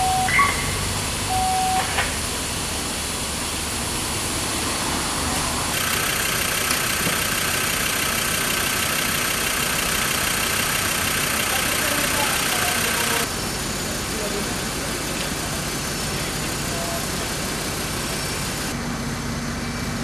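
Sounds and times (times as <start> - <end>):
fire engine idling: 0.0 - 20.0.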